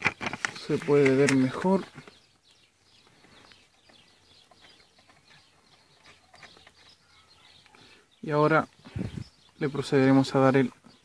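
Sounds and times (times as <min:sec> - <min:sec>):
faint bird chirps: 0:01.4 - 0:11.0.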